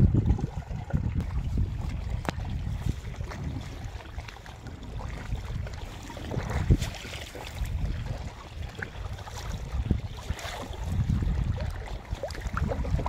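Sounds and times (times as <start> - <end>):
water sloshing and splashing: 0.0 - 13.0
wind buffeting microphone: 0.0 - 13.0.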